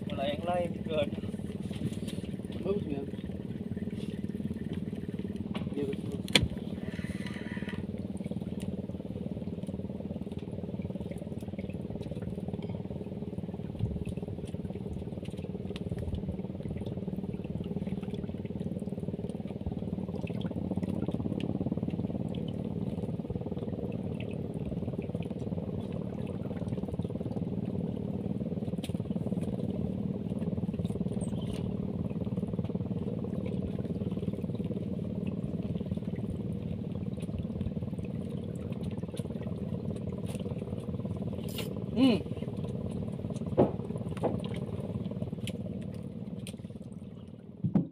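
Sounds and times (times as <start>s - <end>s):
boat engine running: 0.0s - 47.9s
water lapping hull: 0.0s - 47.9s.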